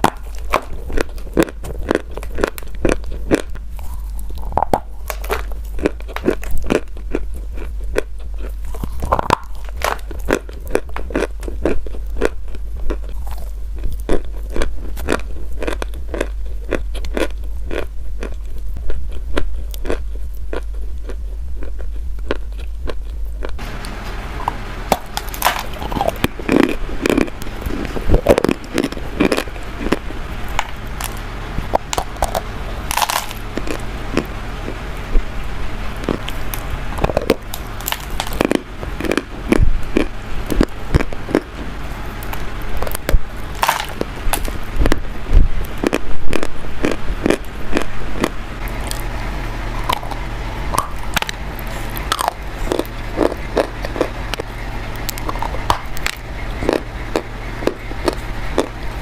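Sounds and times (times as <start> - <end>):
chalk crunching: 0.0 - 49.1
chewing: 0.0 - 59.0.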